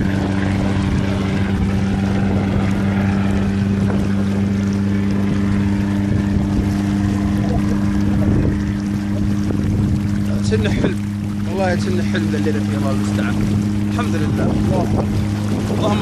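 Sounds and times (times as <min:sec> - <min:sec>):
vehicle engine humming: 0:00.0 - 0:16.0
wheels rushing through water: 0:00.0 - 0:16.0.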